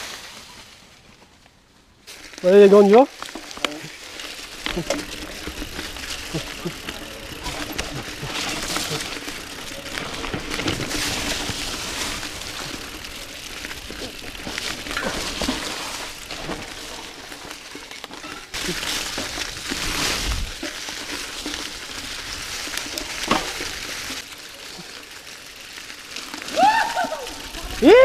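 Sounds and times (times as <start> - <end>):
tyres rustling through dry leaves: 0.0 - 28.0
bike knocking and rattling: 2.1 - 28.0.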